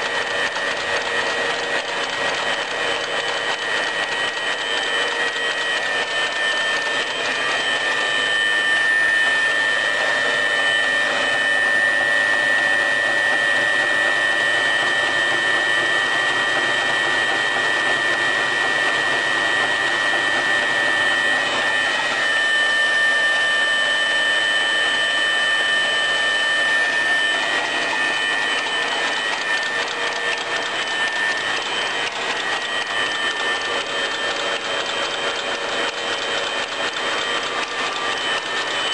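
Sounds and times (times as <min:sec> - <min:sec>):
fast mechanical clatter: 0:00.0 - 0:21.5, 0:26.8 - 0:38.9
cutting machine high whine: 0:00.0 - 0:38.9.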